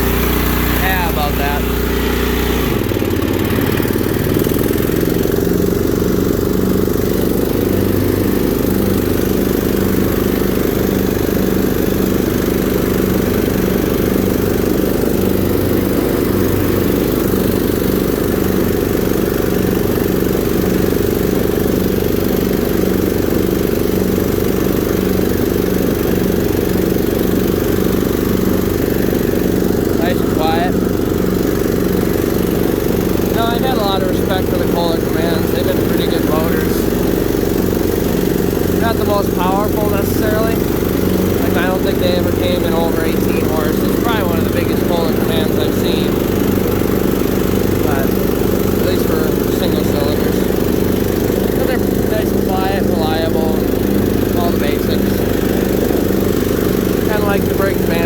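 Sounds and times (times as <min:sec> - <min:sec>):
riding mower engine running: 0:00.0 - 0:58.0.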